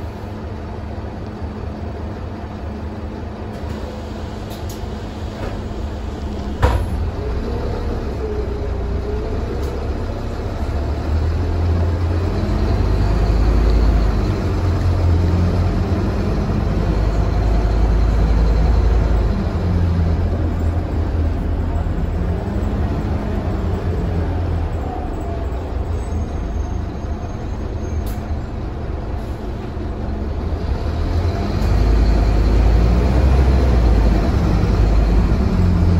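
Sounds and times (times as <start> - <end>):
bus diesel engine driving: 0.0 - 35.9.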